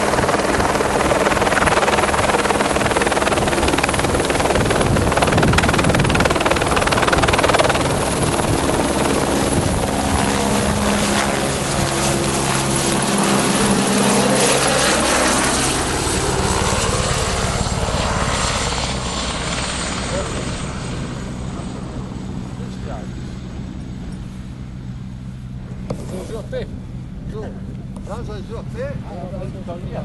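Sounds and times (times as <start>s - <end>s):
helicopter running: 0.0s - 30.0s.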